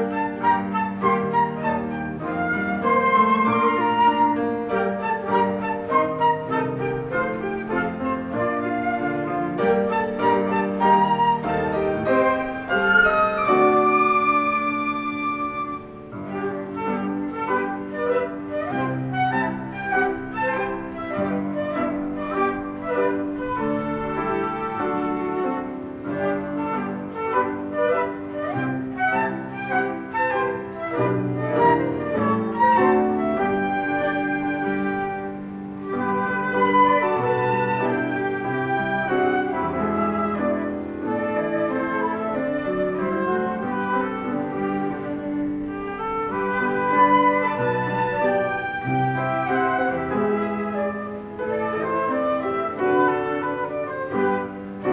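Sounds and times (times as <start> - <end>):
instrumental ensemble music: 0.0 - 54.9.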